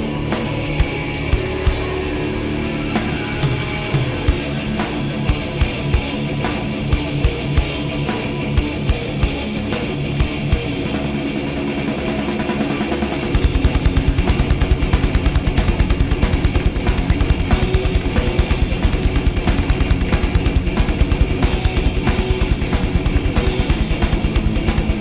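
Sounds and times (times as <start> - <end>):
rapid bass drum strokes: 0.0 - 25.0
thrash metal band playing: 0.0 - 25.0.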